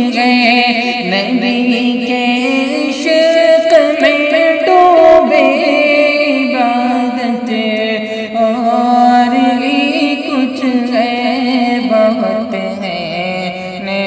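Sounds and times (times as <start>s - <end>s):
man singing wordless melody: 0.0s - 14.0s.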